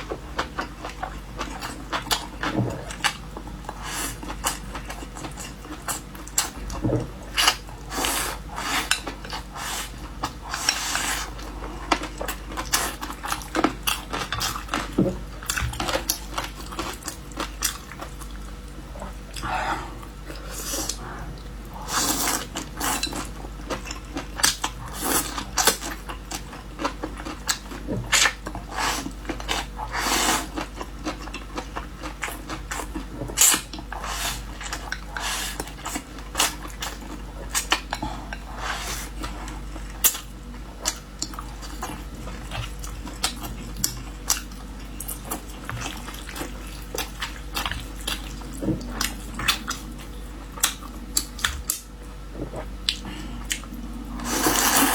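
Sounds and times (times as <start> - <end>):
chewing: 0.4 - 54.9.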